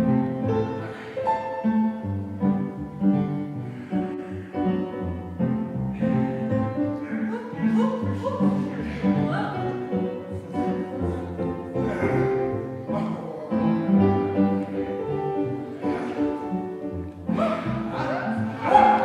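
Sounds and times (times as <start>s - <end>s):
instrumental music: 0.0s - 19.0s.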